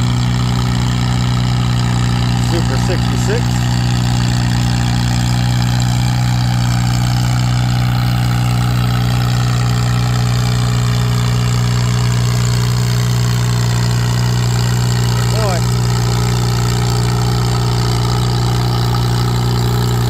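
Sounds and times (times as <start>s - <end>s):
tractor engine running under load: 0.0s - 20.0s.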